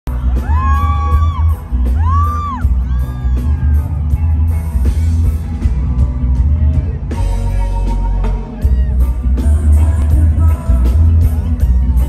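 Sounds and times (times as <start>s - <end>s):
heavy bass line: 0.1s - 12.0s
live reggae band playing: 0.1s - 12.0s.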